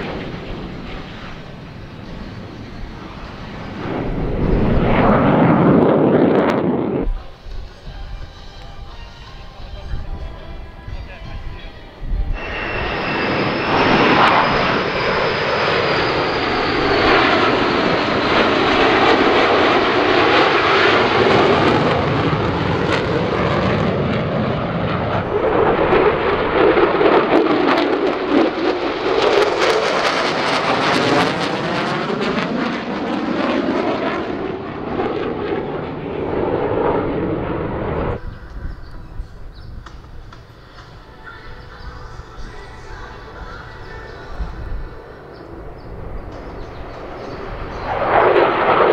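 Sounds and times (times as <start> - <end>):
high falling whine: 0.0 - 10.8, 11.8 - 48.9
fighter jets flying past: 0.0 - 48.9.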